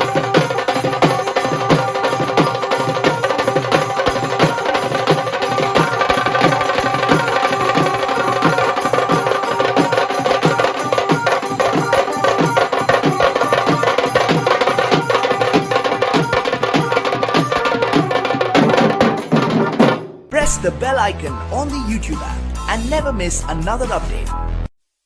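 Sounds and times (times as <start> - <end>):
tasha drum rolls: 0.0 - 23.7
deep dhol drum strokes: 0.0 - 23.8.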